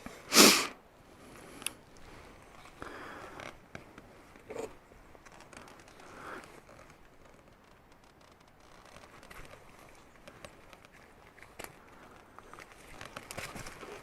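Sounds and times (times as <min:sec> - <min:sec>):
faint handling scrapes and clicks: 0:01.3 - 0:14.0.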